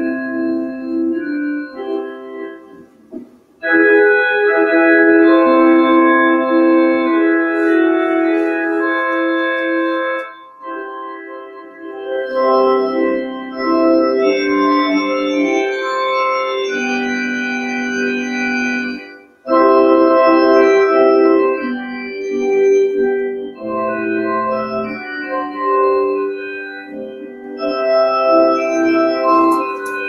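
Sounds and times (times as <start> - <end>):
organ playing slow chords: 0.0 - 30.0.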